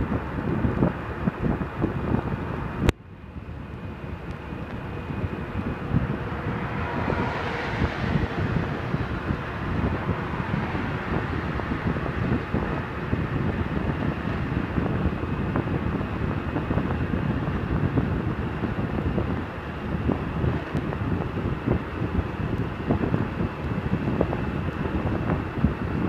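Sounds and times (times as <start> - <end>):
broad rushing sound: 0.0 - 26.0
road rumble: 0.0 - 26.0
wind buffeting microphone: 0.0 - 26.0.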